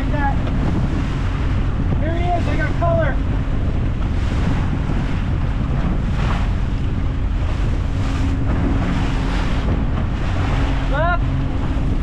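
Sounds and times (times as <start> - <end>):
outboard motors droning: 0.0 - 12.0
rush of boat wake: 0.0 - 12.0
wind buffeting microphone: 0.0 - 12.0.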